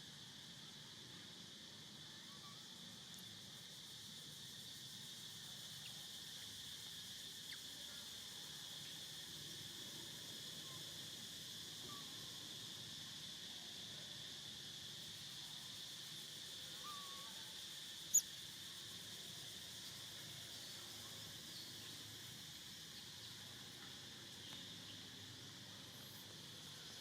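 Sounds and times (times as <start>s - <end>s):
high-pitched insect chorus buzzing: 0.0s - 27.0s.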